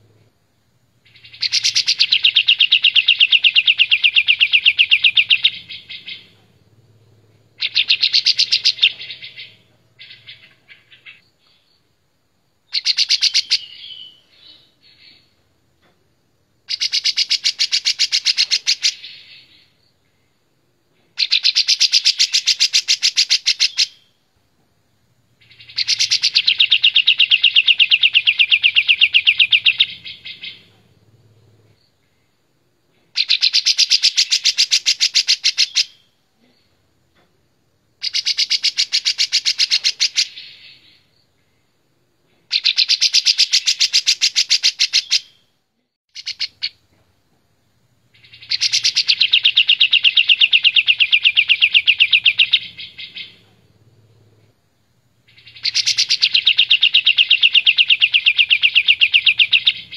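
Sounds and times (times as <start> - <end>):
bulbul singing fast trills: 1.0 - 11.7, 12.7 - 15.3, 16.6 - 20.4, 21.0 - 24.2, 25.3 - 32.4, 33.1 - 36.2, 38.0 - 41.2, 42.5 - 45.5, 46.1 - 46.8, 47.7 - 59.9.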